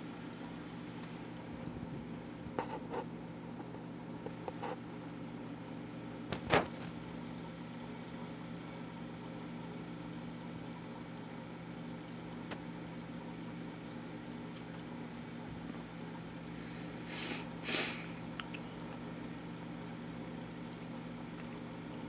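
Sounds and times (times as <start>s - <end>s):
aquarium filter electrical hum: 0.0s - 22.0s.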